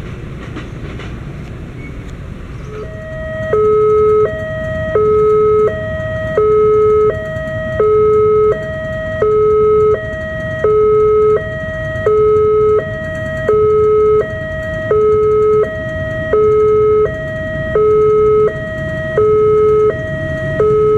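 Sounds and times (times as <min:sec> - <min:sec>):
steady low rumble: 0:00.0 - 0:20.9
two-tone crossing warning alarm: 0:02.7 - 0:20.9.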